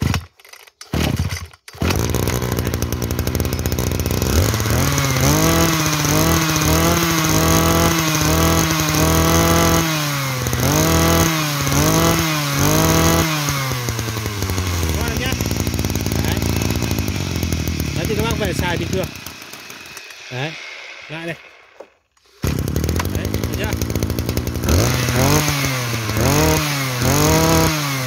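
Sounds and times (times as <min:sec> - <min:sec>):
brush cutter engine revving: 0:00.0 - 0:28.0.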